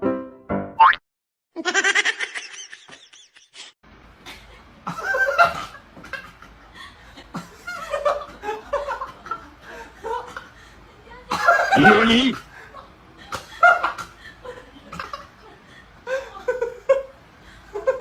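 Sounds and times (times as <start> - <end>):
people laughing: 1.6 - 3.7, 4.3 - 18.0.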